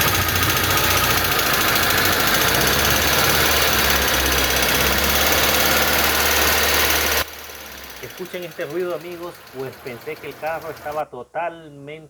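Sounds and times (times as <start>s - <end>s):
car engine valve ticking clatter: 0.0s - 11.0s.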